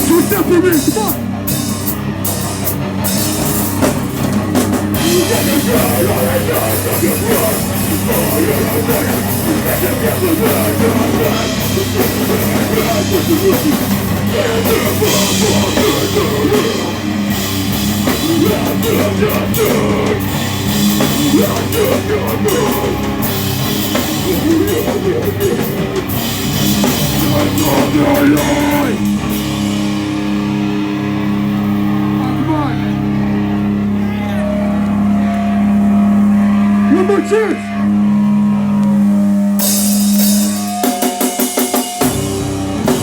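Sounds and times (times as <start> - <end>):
heavy rock band playing live: 0.0 - 43.0.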